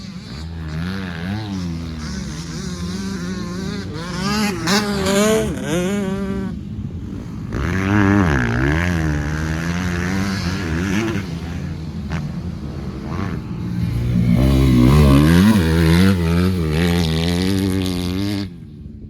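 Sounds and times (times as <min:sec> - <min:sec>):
dirt bike engine revving: 0:00.0 - 0:18.7.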